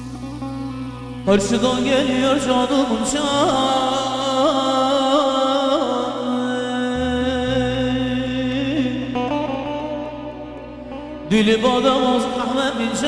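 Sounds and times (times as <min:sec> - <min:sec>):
low drone: 0:00.0 - 0:13.0
ornamented folk melody: 0:00.0 - 0:13.0.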